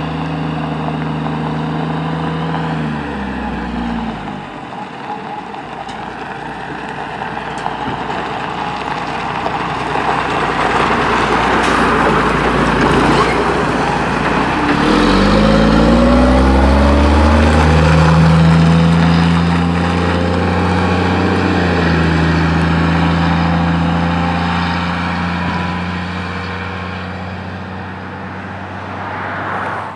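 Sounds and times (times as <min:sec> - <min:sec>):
truck diesel engine: 0:00.0 - 0:29.9.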